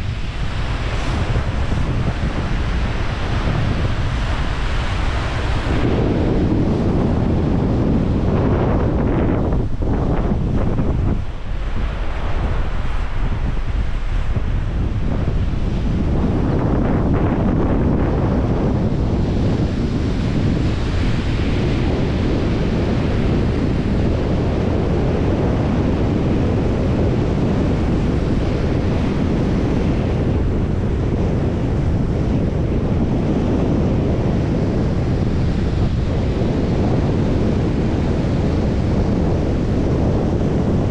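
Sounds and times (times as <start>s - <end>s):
sea waves washing on shore: 0.0s - 40.9s
wind blowing on microphone: 0.0s - 40.9s.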